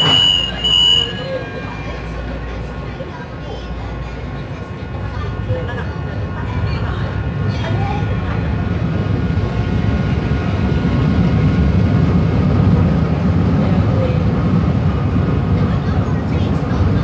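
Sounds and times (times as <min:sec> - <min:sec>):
rail car rumble: 0:00.0 - 0:17.0.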